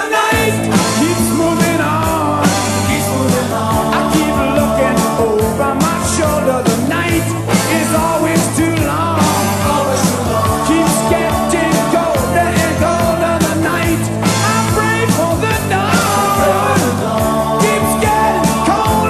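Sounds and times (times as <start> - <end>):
rock band music: 0.0 - 19.0.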